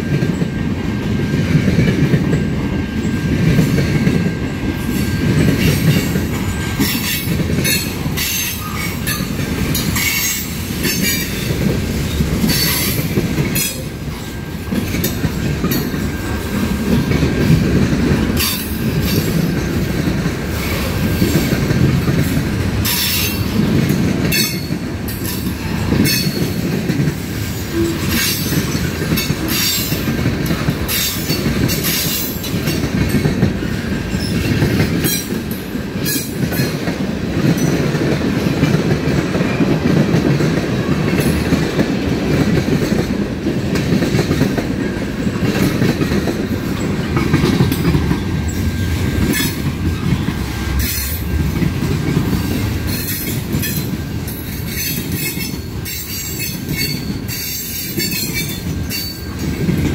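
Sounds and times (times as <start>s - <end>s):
low rumble of train: 0.0s - 59.9s.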